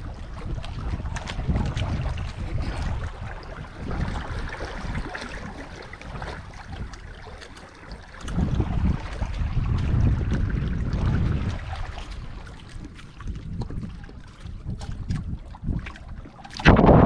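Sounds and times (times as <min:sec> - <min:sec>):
water rushing along a wooden hull: 0:00.0 - 0:17.0
wind rumble on microphone: 0:00.0 - 0:17.0.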